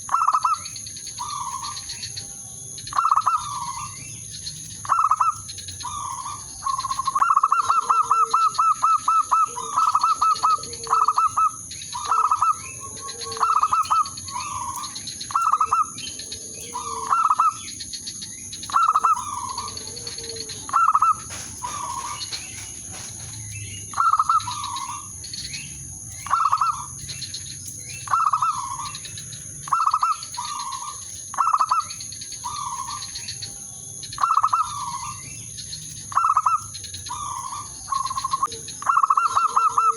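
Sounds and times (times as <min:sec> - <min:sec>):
dove cooing: 0:00.0 - 0:02.1, 0:02.9 - 0:04.1, 0:04.8 - 0:27.3, 0:27.9 - 0:33.4, 0:34.2 - 0:35.3, 0:36.1 - 0:39.9.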